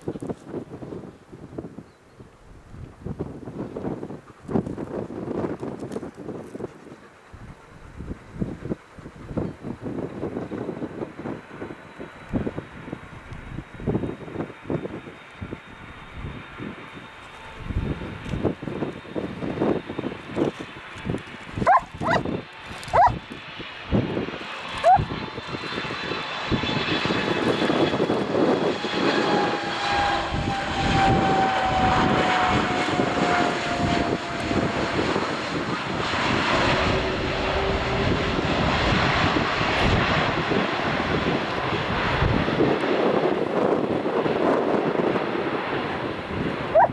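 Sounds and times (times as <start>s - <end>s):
jet engines on landing pass: 0.0s - 46.9s
high jet whine: 7.1s - 46.9s.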